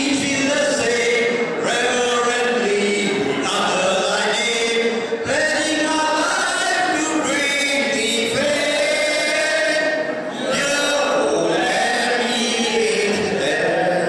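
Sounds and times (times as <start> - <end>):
choir singing long notes: 0.0 - 14.0.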